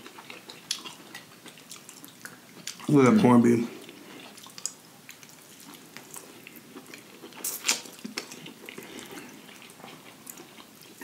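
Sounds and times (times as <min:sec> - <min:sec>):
wet chewing: 0:00.0 - 0:02.9, 0:03.8 - 0:11.0.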